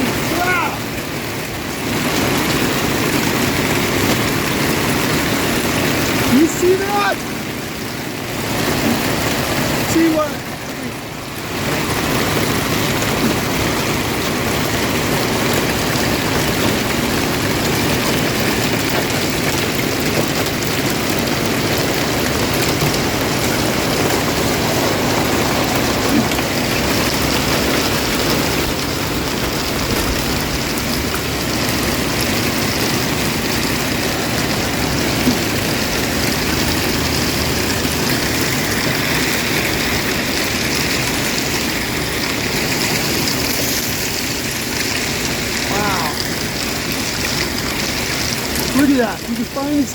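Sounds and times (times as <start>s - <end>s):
heavy rain on vehicle roof: 0.0s - 49.9s.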